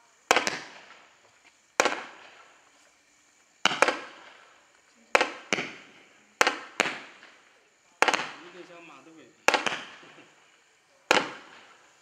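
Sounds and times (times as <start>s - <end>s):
fireworks cake bangs: 0.2s - 2.6s, 3.6s - 12.0s.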